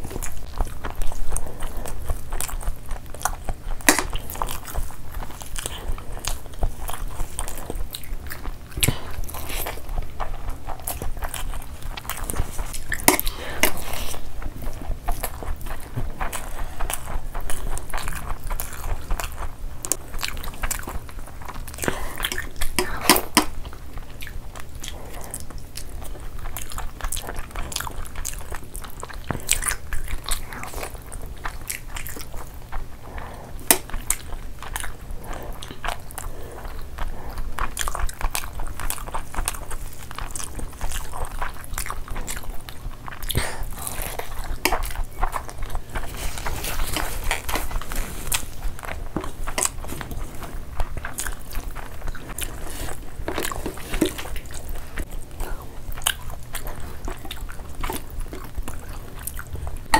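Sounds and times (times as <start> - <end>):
people chewing food: 0.0 - 59.9.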